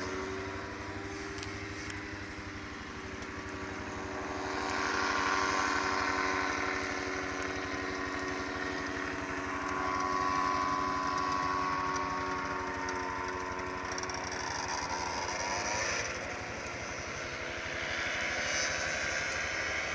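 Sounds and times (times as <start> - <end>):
aircraft engine droning: 0.0 - 19.9.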